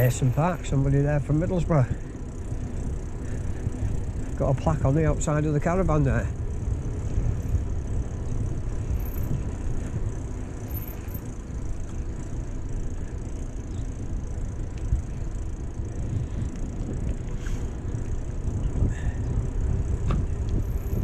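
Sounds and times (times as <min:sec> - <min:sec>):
wind buffeting microphone: 0:00.0 - 0:12.2, 0:13.7 - 0:21.0
bicycle tyres humming on road: 0:00.0 - 0:21.0.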